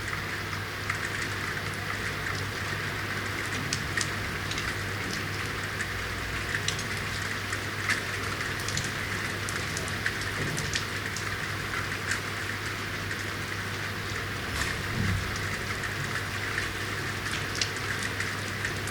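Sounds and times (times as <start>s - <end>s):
raindrops ticking on hard surfaces: 0.0s - 18.9s
steady rain hiss: 0.0s - 18.9s.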